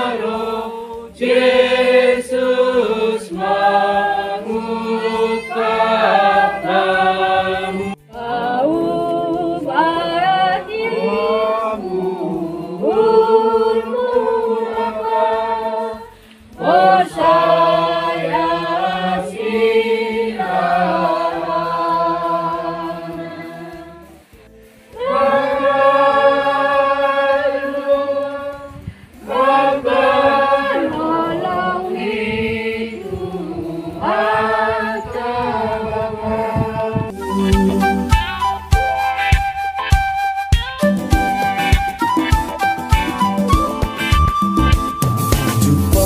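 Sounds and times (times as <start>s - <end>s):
congregation singing a hymn: 0.0s - 38.3s.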